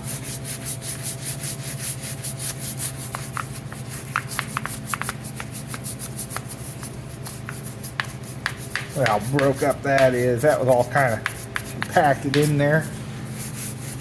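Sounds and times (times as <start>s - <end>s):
brush scrubbing grease: 0.0s - 14.0s.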